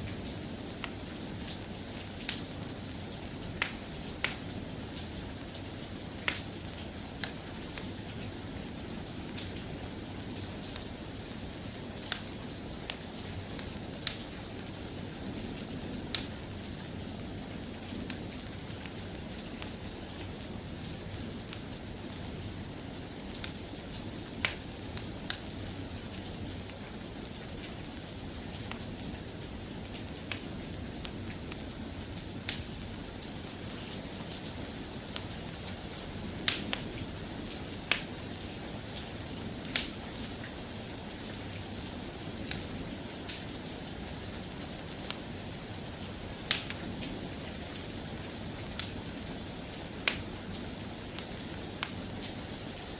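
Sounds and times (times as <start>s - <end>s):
soft steady rain: 0.0s - 52.9s.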